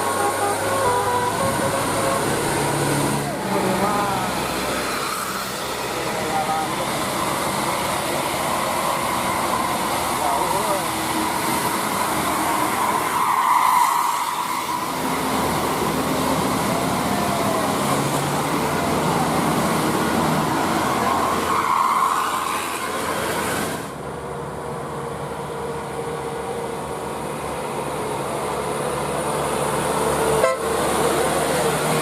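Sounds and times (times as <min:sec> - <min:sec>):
passing traffic: 0:00.0 - 0:32.0.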